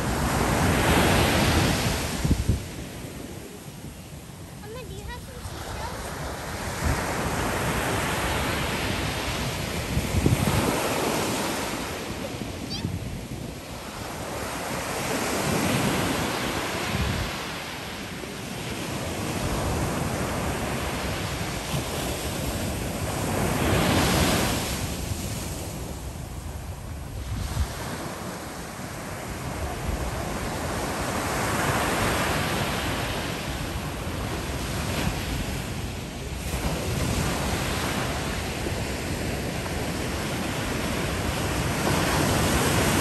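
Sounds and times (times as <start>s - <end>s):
ocean surf breaking on beach: 0.0s - 43.0s.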